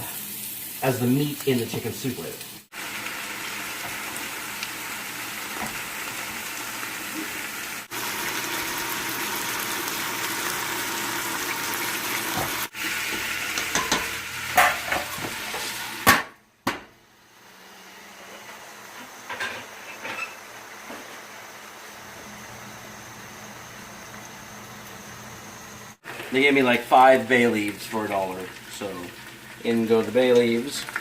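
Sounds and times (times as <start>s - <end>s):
chicken sizzling in a pot: 0.0s - 16.2s, 17.2s - 31.0s.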